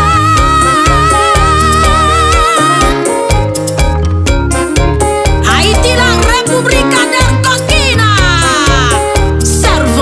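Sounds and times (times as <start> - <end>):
bass and drums beat: 0.0 - 10.0.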